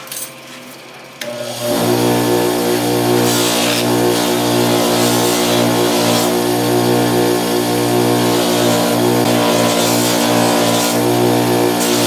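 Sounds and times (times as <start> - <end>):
electric buffing wheel running: 1.2 - 12.0.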